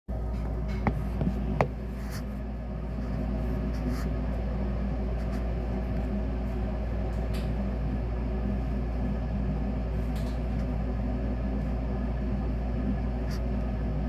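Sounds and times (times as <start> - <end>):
furnace humming: 0.1 - 14.0.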